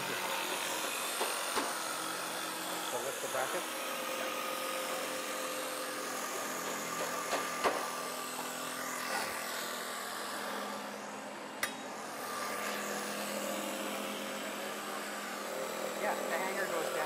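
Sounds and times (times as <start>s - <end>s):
jigsaw cutting wood: 0.0s - 17.0s.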